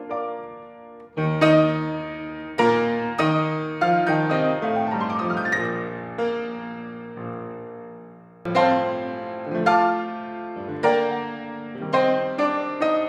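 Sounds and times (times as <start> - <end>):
grand piano playing: 0.0 - 13.0.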